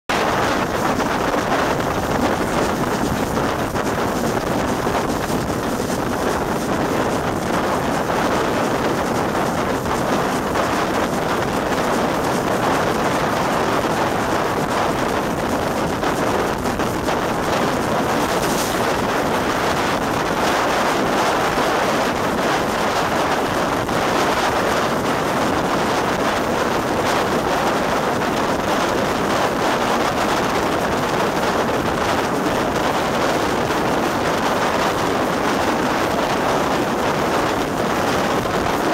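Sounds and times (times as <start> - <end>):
wind rushing over microphone: 0.1 - 38.9.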